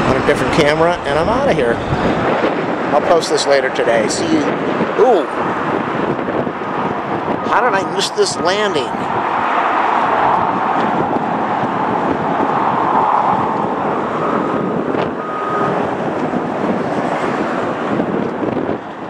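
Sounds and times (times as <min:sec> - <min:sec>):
jet engine rush: 0:00.0 - 0:19.0
wind buffeting microphone: 0:00.0 - 0:19.0.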